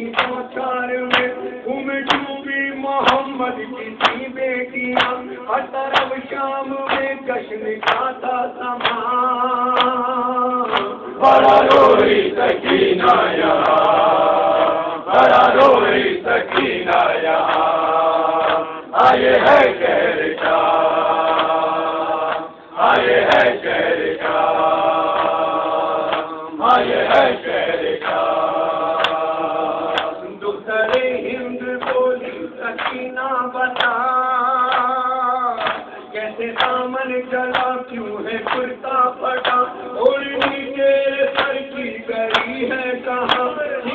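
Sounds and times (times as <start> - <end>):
voices joining chant: 0.0 - 43.9.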